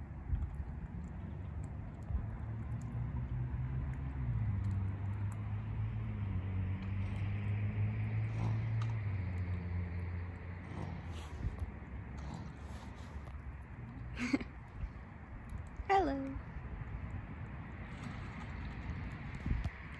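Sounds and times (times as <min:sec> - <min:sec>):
low engine hum: 0:00.0 - 0:19.9.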